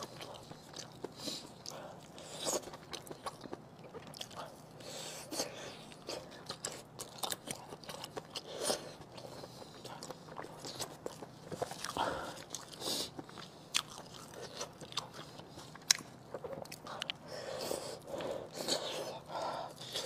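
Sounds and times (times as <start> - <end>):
person chewing with smacks: 0.0 - 20.0.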